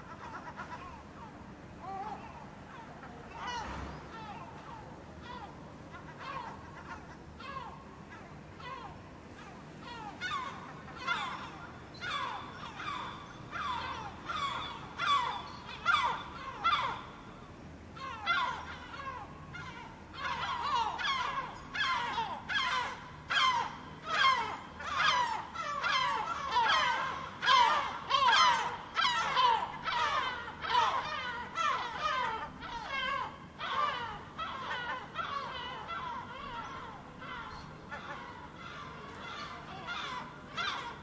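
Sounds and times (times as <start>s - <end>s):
gulls calling: 0.0s - 41.0s.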